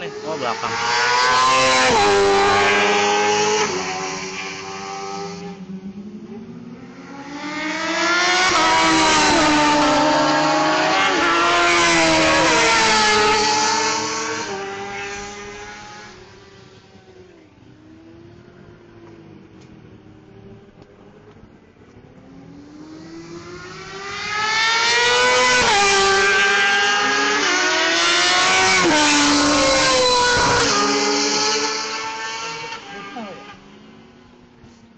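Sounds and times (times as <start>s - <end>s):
motorcycles accelerating past: 0.0s - 34.6s.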